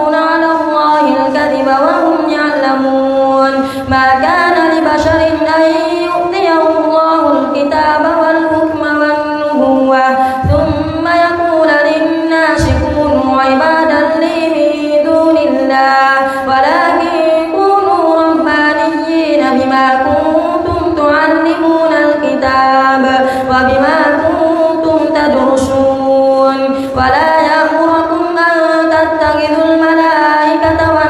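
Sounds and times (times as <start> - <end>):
person chanting recitation: 0.0 - 31.0.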